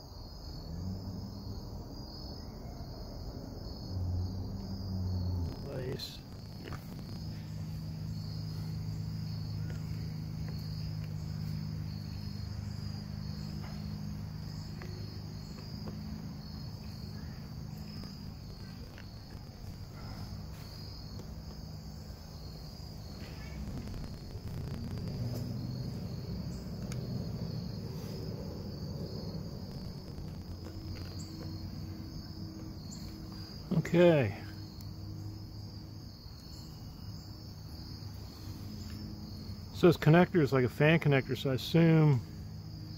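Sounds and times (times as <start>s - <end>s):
insects chirring: 0.0s - 42.9s
low hum: 0.5s - 39.7s.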